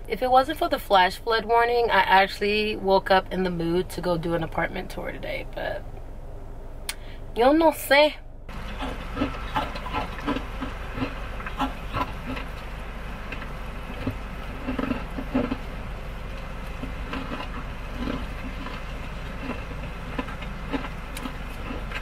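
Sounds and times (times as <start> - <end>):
car road rumble: 0.0 - 22.0.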